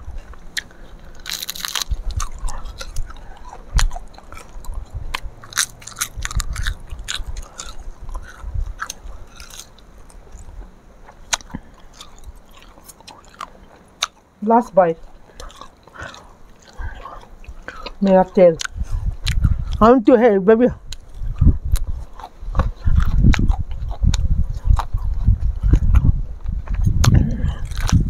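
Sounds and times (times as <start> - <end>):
people chewing crunchy food: 0.0 - 20.0, 20.8 - 28.0.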